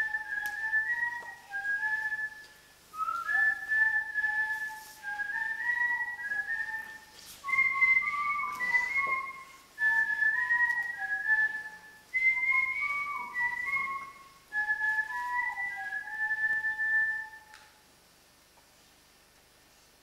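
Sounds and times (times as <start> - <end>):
person whistling a tune: 0.0 - 17.7.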